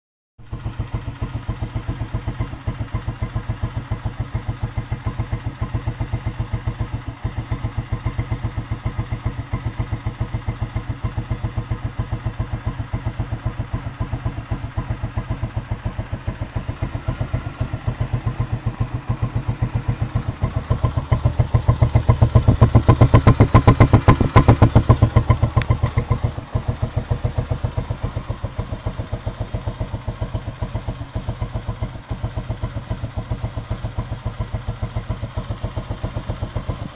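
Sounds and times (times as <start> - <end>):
motorcycle engine idling: 0.4 - 36.9
motorcycle engine revving: 0.4 - 36.9.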